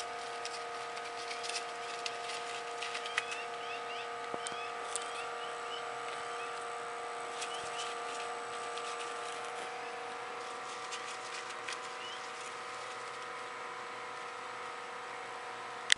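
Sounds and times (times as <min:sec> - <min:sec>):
hum of held tones: 0:00.0 - 0:15.9.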